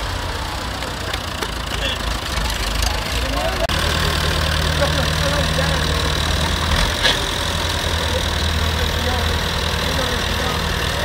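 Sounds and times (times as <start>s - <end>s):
faint voices: 0.0s - 11.0s
tractor diesel engine running: 0.0s - 11.0s.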